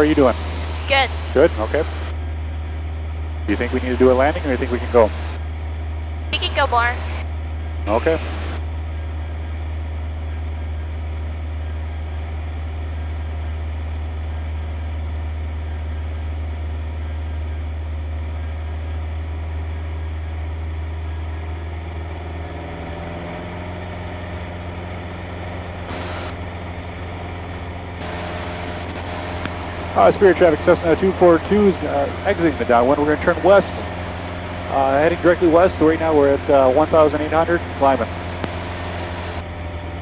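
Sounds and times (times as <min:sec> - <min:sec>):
aircraft engine and propeller drone: 0:00.0 - 0:40.0.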